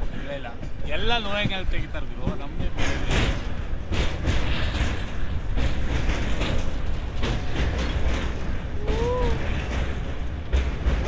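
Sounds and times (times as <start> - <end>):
train clattering and knocking: 0.0 - 11.0
train rumbling on track: 0.0 - 11.0.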